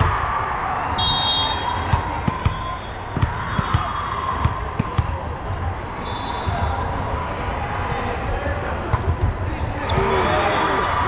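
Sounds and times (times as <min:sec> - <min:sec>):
echoing chatter: 0:00.0 - 0:11.0.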